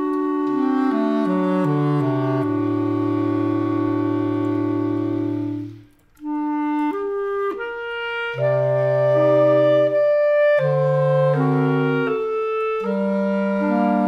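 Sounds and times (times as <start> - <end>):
bass clarinet chord: 0.0 - 14.0
clarinets playing a slow waltz: 0.0 - 14.0.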